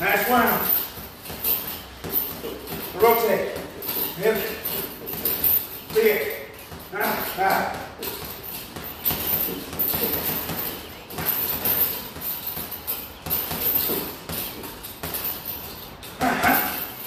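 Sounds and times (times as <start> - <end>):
boxing gloves hitting heavy bag: 0.0 - 17.0
noisy background: 0.0 - 17.0.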